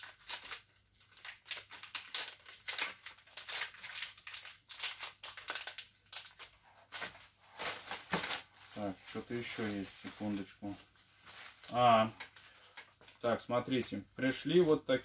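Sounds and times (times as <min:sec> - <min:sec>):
plastic bags rustling: 0:00.0 - 0:14.8.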